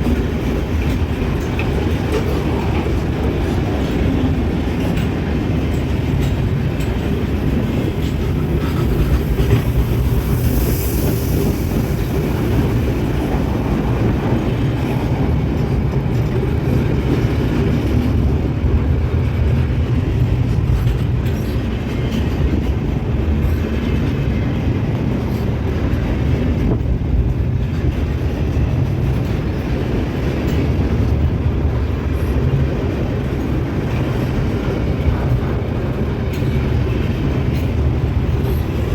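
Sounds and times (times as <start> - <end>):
wheel clatter on rails: 0.0 - 31.5
freight train rumbling past: 0.0 - 38.9.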